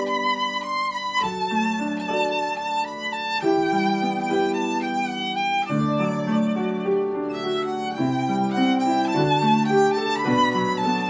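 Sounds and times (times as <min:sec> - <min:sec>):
piano accompaniment: 0:00.0 - 0:11.0
violin melody: 0:00.0 - 0:11.0.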